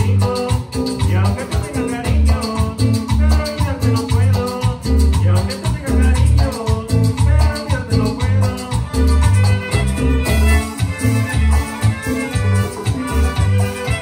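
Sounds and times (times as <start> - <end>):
latin dance band music: 0.0 - 14.0.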